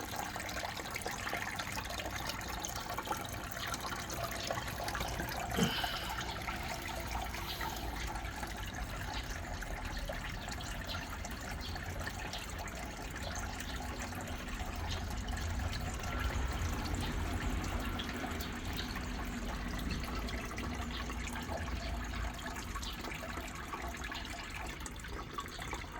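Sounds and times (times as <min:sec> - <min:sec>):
water drips and trickles: 0:00.0 - 0:25.9.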